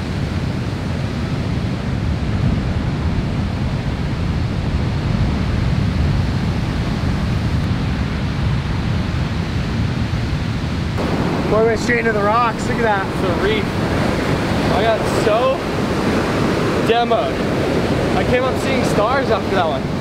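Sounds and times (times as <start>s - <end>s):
heavy ocean surf breaking: 0.0s - 20.0s
wind buffeting microphone: 0.0s - 20.0s.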